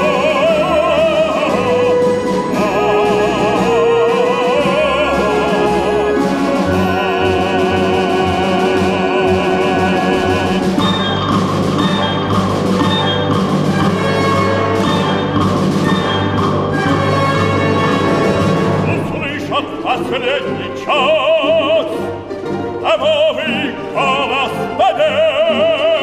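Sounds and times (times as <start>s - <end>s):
folk orchestra with choir: 0.0s - 26.0s.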